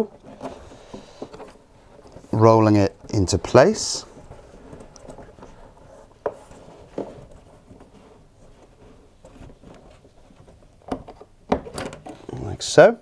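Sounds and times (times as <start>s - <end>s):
rubber belt rubbing and scraping: 0.0s - 10.9s.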